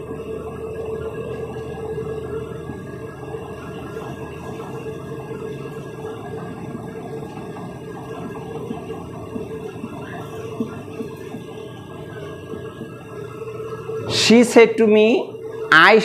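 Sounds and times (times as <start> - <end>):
mechanical hum with mid-pitched tone: 0.0 - 16.0
noisy background drone: 0.0 - 16.0.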